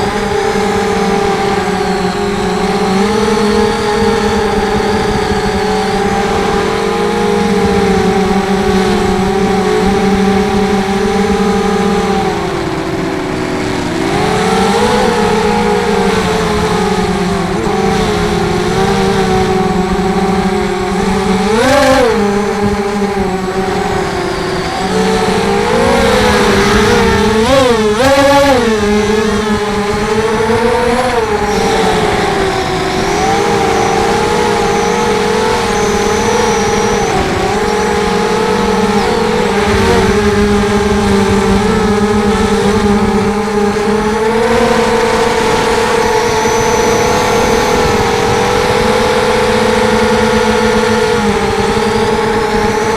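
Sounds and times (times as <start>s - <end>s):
drone motors whining: 0.0s - 52.9s.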